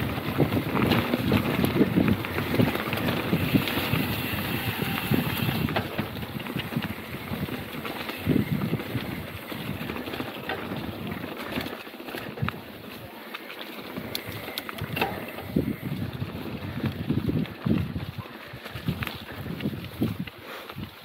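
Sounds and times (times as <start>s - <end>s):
wind rumbling on microphone: 0.0s - 13.1s, 13.8s - 21.0s
bike rattling: 0.0s - 21.0s.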